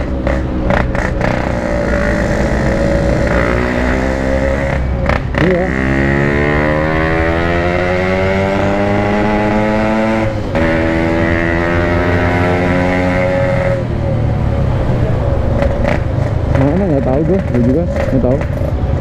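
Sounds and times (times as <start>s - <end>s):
two-stroke motorcycle accelerating: 0.0s - 19.0s.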